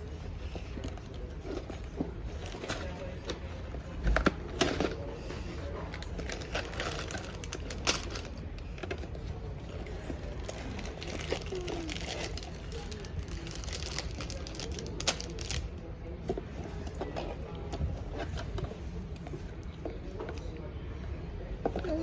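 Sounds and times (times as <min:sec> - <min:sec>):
faint voices: 0:00.0 - 0:22.0
handling clicks and crinkles: 0:00.0 - 0:22.0.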